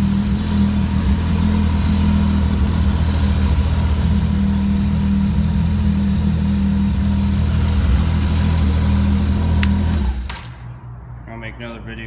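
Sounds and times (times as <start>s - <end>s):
snowmobile engine idling: 0.0s - 10.3s.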